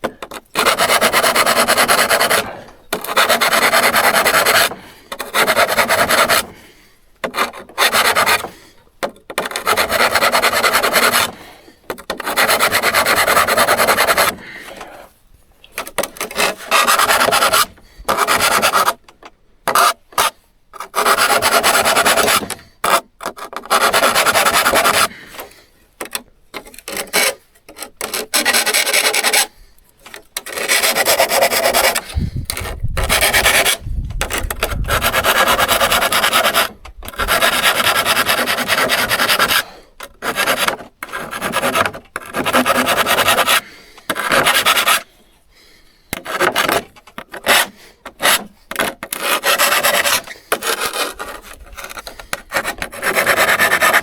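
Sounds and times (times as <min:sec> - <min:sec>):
hand scraping saw blade: 0:00.0 - 0:06.6, 0:07.2 - 0:15.1, 0:15.7 - 0:19.0, 0:19.7 - 0:45.3, 0:46.1 - 0:54.0.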